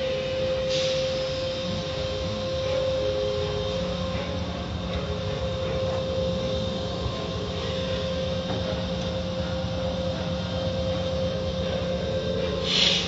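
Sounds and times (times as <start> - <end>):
car wash machine drone: 0.0 - 13.0.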